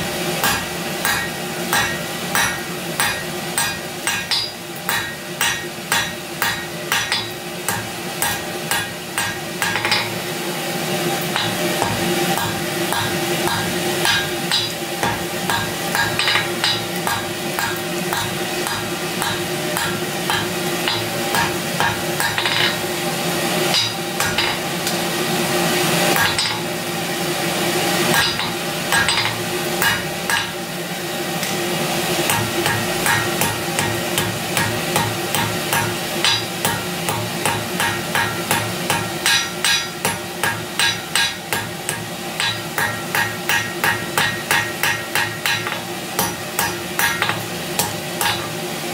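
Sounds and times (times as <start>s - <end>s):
hammer striking steel on anvil: 0.4s - 10.3s, 11.2s - 23.0s, 23.6s - 25.0s, 26.1s - 26.8s, 28.0s - 30.7s, 32.2s - 48.6s.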